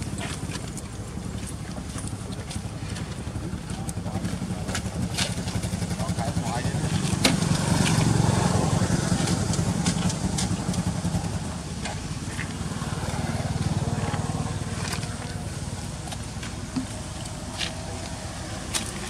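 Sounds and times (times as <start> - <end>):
engine pulsing low rumble: 0.0 - 19.0.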